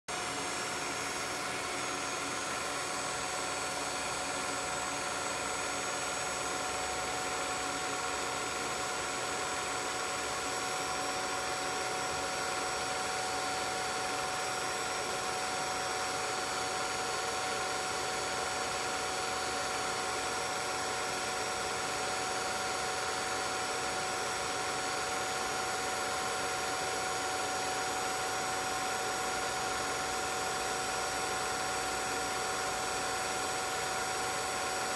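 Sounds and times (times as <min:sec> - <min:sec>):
film projector running: 0:00.1 - 0:34.9.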